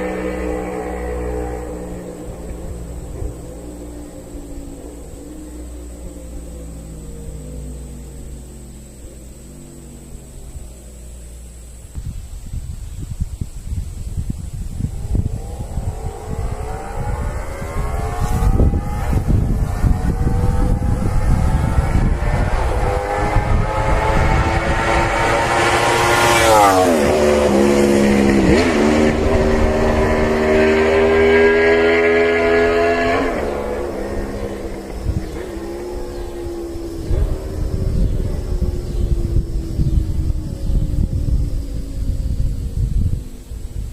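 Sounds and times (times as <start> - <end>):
motorcycle engine revving: 0.0 - 43.9
steady low hum: 0.0 - 43.9
wind buffeting microphone: 0.0 - 43.9.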